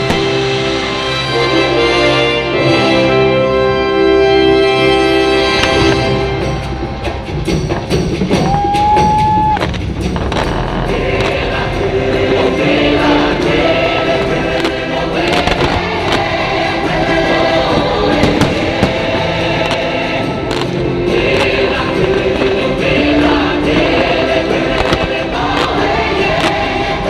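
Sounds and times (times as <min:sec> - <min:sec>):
fireworks cracking: 0:00.0 - 0:01.6, 0:05.4 - 0:27.0
music with choir singing: 0:00.0 - 0:27.0.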